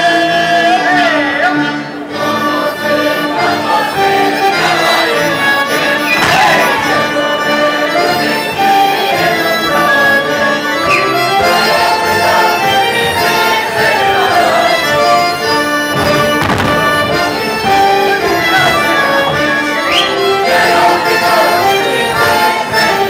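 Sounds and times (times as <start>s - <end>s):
folk dance music: 0.0s - 23.0s.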